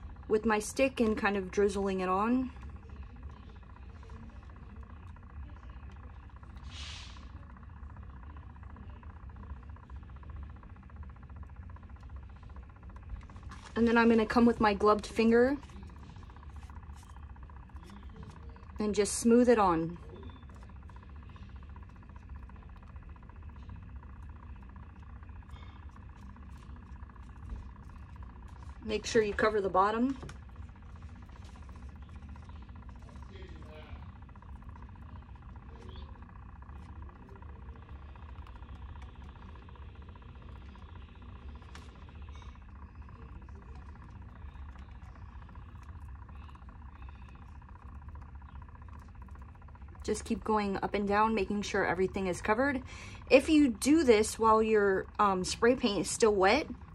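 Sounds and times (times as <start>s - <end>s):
small electric motor humming: 0.0s - 56.9s.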